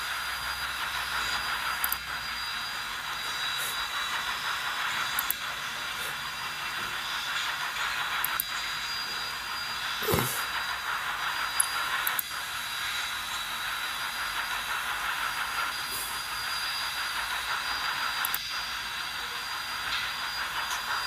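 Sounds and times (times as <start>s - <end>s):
steam train through small speakers: 0.0s - 21.0s.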